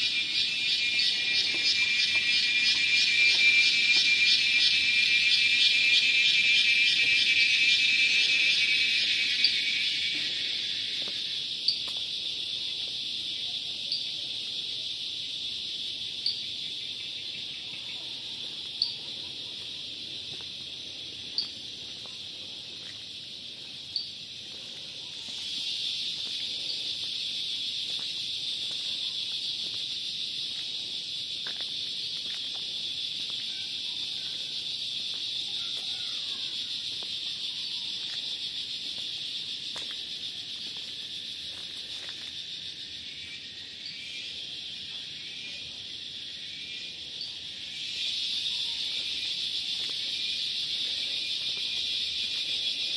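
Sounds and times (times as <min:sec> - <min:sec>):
insects shrilling: 0:00.0 - 0:52.9
low pulsing insect trill: 0:00.0 - 0:52.9
sharp insect chirp: 0:00.0 - 0:52.9.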